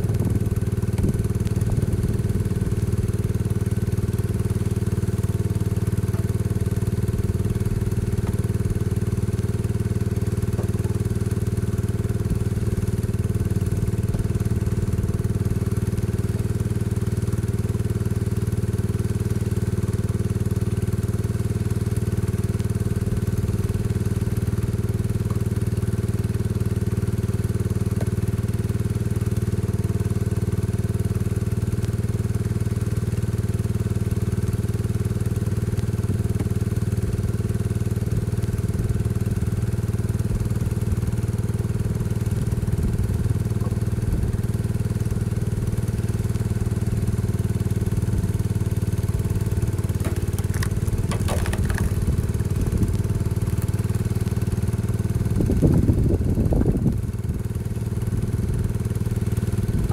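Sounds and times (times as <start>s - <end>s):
tractor engine running steadily: 0.0s - 59.9s.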